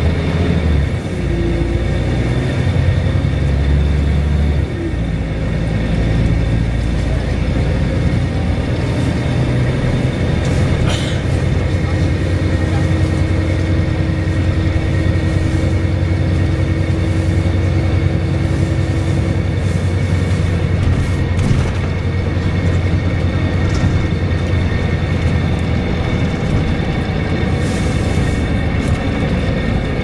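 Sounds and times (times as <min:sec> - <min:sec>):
bus diesel engine running: 0:00.0 - 0:30.0.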